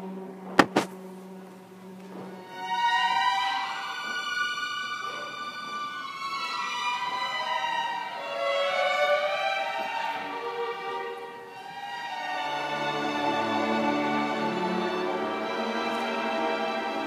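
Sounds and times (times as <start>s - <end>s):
string orchestra playing: 2.3s - 17.0s.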